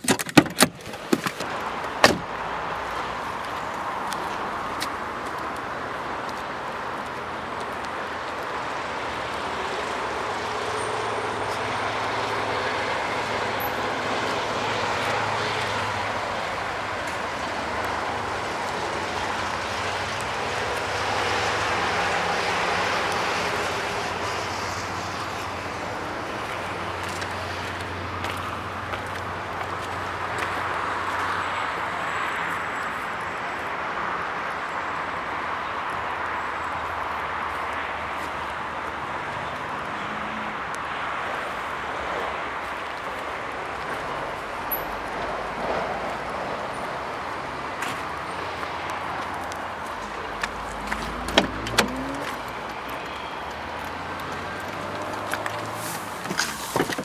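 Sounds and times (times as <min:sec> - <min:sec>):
motor vehicle hum: 0:00.0 - 0:32.7, 0:35.8 - 0:57.0.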